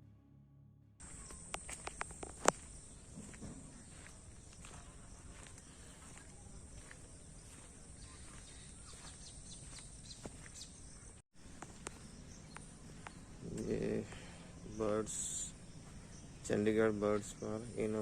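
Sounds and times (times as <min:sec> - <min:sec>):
faint chirps: 0:01.0 - 0:18.0.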